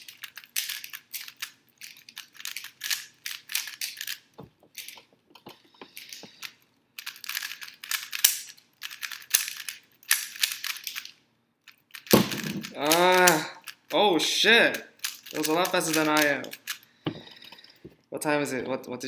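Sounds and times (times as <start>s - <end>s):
puzzle cube clicking: 0.0s - 5.1s, 5.9s - 14.0s, 14.6s - 16.8s.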